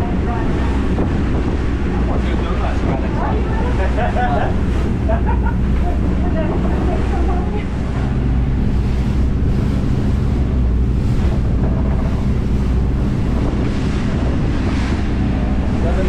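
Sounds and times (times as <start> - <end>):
boat engine hum: 0.0 - 16.0
water rushing past hull: 0.0 - 16.0
wind on microphone: 0.0 - 16.0.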